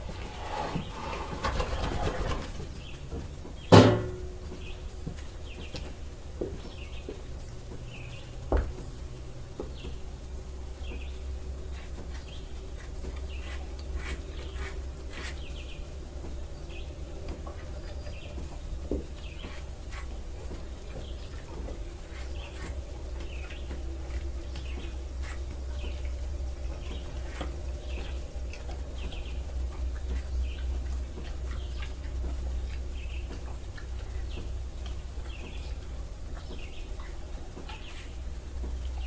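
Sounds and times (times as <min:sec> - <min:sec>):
birds chirping: 0:00.0 - 0:03.8, 0:04.4 - 0:39.0
steady low hum: 0:00.0 - 0:39.0.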